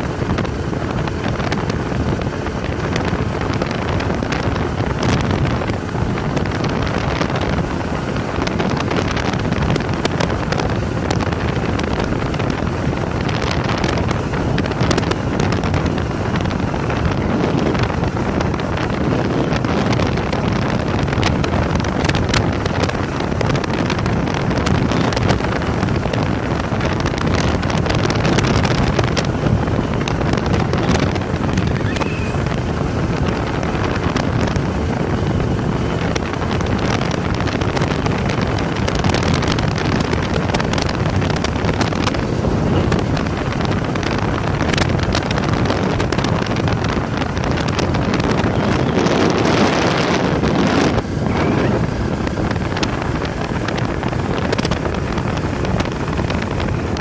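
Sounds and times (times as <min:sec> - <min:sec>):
motorcycle running: 0:00.0 - 0:57.0
wind buffeting microphone: 0:00.0 - 0:57.0.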